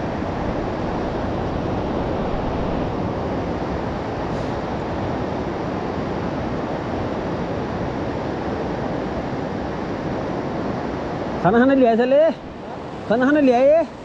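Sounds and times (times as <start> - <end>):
river rushing through rock gorge: 0.0 - 14.0.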